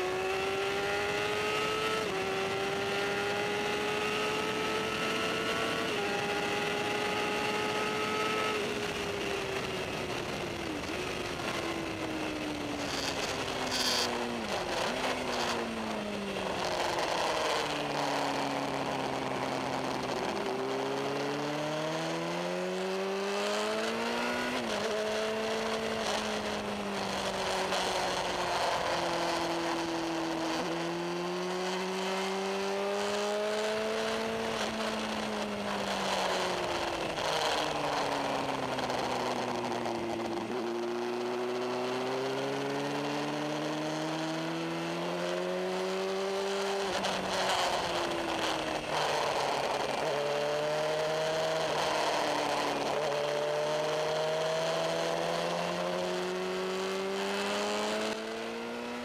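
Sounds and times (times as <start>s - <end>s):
motorcycle engine at speed: 0.0s - 59.0s.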